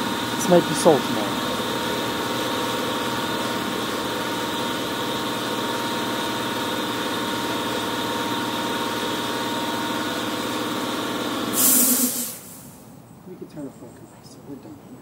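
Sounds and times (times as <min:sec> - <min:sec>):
air compressor running: 0:00.0 - 0:12.9.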